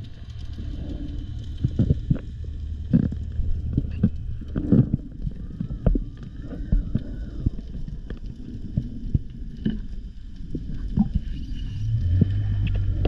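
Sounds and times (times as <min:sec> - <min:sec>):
underwater low rumble: 0:00.0 - 0:13.0.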